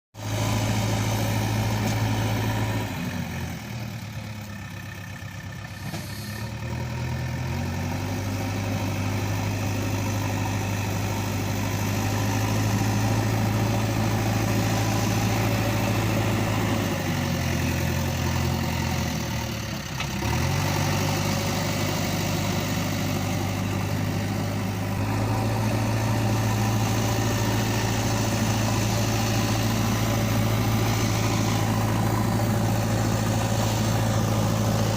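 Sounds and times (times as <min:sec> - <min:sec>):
engine idling drone: 0:00.2 - 0:06.8, 0:08.4 - 0:34.9.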